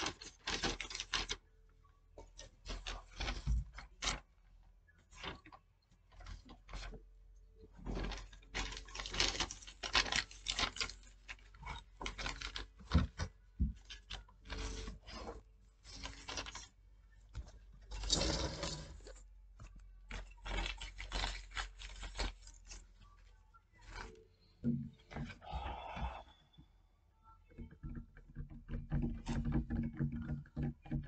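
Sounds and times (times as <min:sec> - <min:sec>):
paper rustling and crackling: 0:00.0 - 0:07.1, 0:07.7 - 0:26.2.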